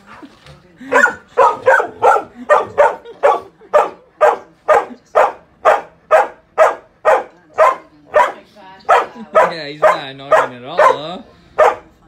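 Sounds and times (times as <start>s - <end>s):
dog barking: 0.9s - 11.9s.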